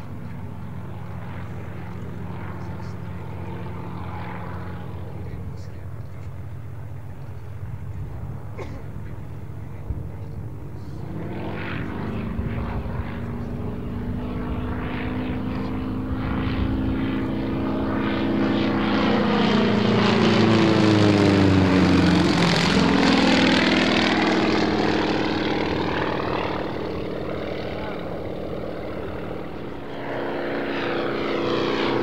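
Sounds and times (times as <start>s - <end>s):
propeller aircraft engine passing: 0.0s - 32.0s.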